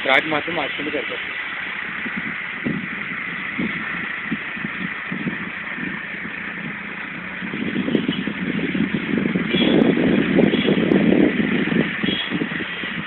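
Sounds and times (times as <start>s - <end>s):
low uneven rumbles: 0.0s - 13.0s
vehicle engine and road noise: 0.0s - 13.0s.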